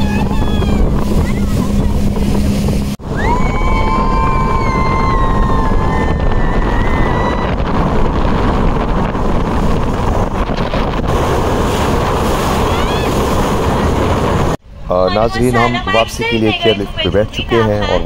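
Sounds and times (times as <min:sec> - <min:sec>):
motorboat engine: 0:00.0 - 0:18.0
rushing water: 0:00.0 - 0:18.0
wind buffeting microphone: 0:00.0 - 0:18.0.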